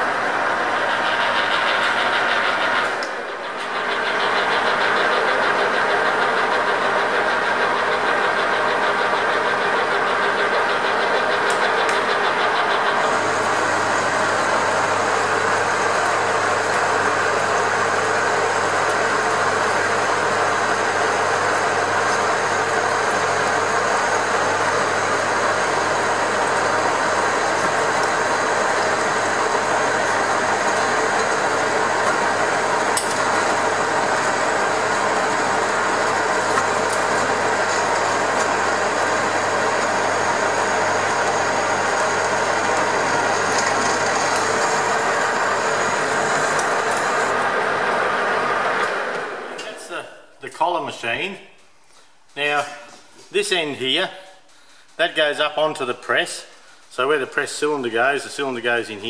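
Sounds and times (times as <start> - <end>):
metal lathe cutting: 0.0 - 49.6.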